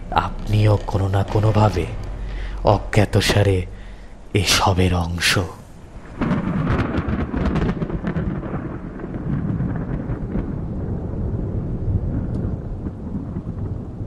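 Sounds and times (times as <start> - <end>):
thunder clap and rumble: 0.0 - 14.0.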